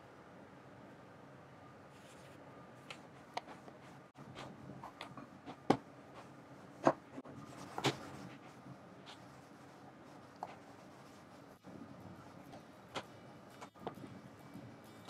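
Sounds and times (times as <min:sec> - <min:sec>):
rolling pin rubbing pastry dough: 0:02.0 - 0:15.0.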